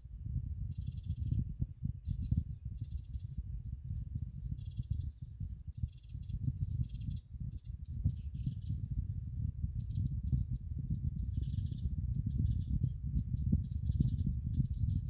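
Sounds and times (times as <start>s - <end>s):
constant low rumble: 0.0s - 15.0s
small birds chirping: 0.2s - 15.0s.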